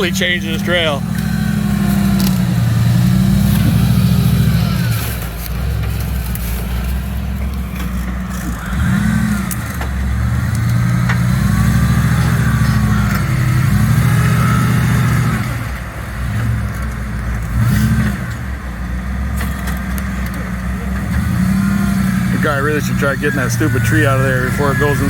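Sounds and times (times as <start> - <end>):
engine running and revving: 0.0 - 25.0.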